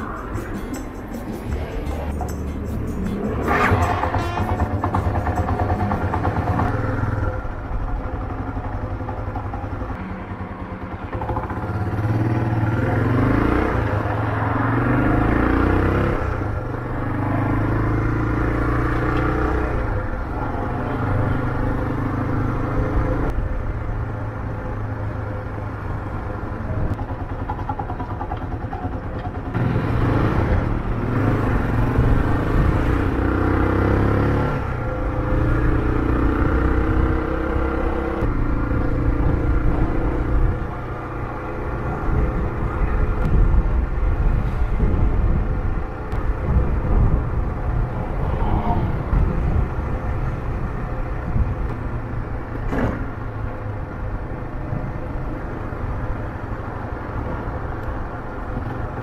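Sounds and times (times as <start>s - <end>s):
motorcycle engine accelerating: 0.0s - 23.3s, 27.0s - 52.2s.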